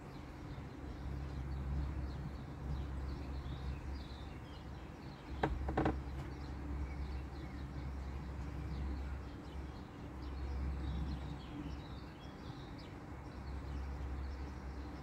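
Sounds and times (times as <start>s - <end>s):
small birds chirping: 0.0s - 15.0s
distant propeller plane rumble: 0.1s - 15.0s.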